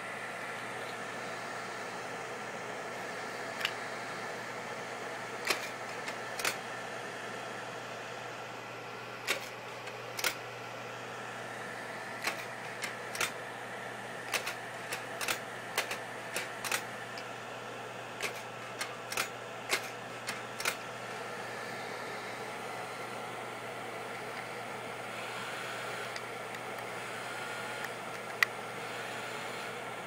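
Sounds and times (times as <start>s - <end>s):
projector fan humming: 0.0s - 30.0s.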